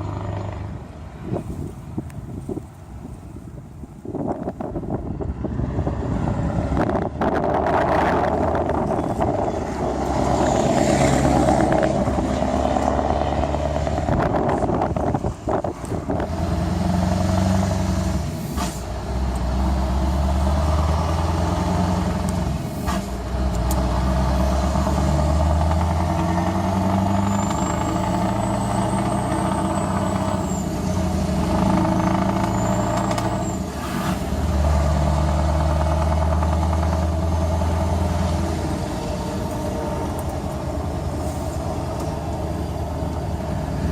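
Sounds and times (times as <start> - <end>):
diesel truck engine rumbling: 0.0 - 43.9.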